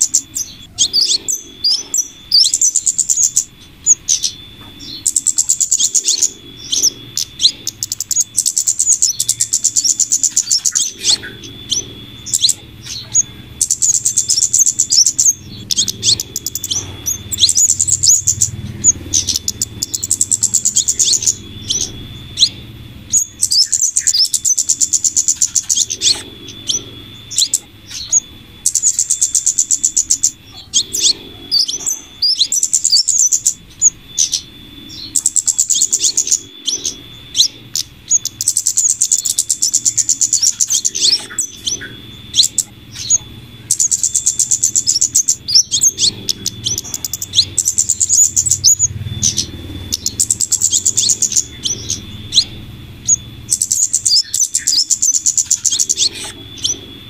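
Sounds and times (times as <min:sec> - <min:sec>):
high buzzing bird trills: 0:00.0 - 0:57.0.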